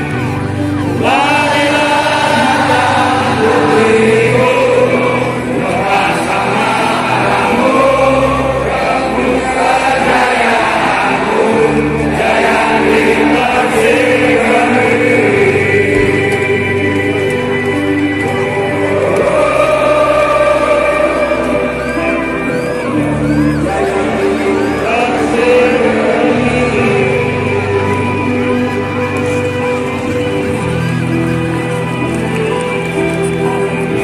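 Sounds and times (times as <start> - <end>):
group singing: 0.8 - 30.6.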